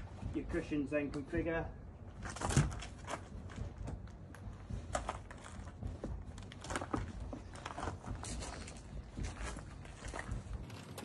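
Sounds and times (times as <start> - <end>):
foam cushions bumping and rustling: 2.1 - 11.0.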